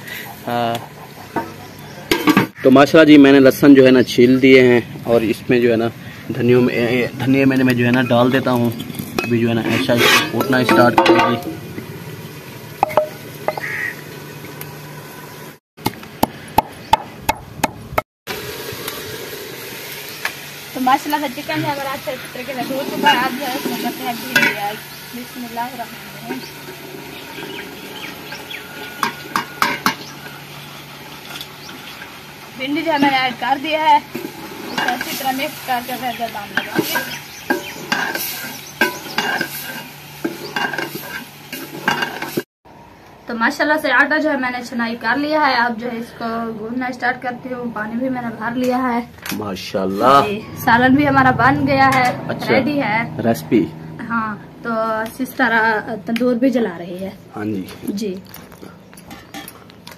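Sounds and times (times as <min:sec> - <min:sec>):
light sizzle: 0:01.4 - 0:15.6, 0:18.3 - 0:53.1, 0:54.0 - 0:59.9.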